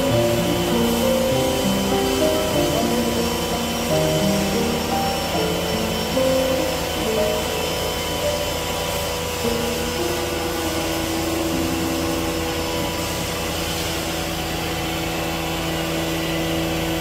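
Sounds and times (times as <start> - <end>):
band saw whirring hiss: 0.0 - 17.0
shifting steady tones: 0.0 - 17.0.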